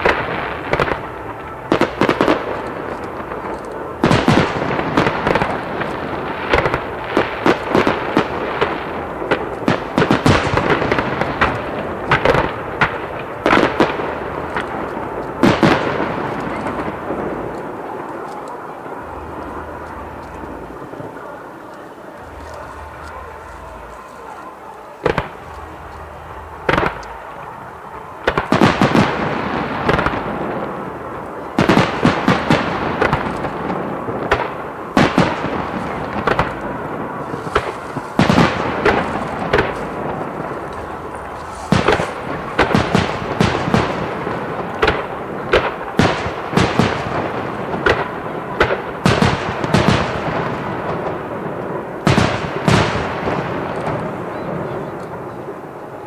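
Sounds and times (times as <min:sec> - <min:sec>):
fireworks bangs: 0:00.0 - 0:56.0
fireworks crackling rumble: 0:00.0 - 0:56.0.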